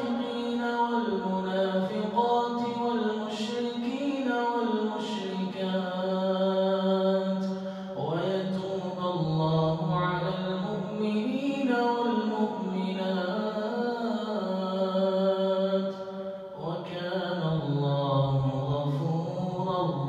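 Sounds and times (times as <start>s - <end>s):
man chanting melodic recitation: 0.0s - 15.9s, 16.6s - 20.0s.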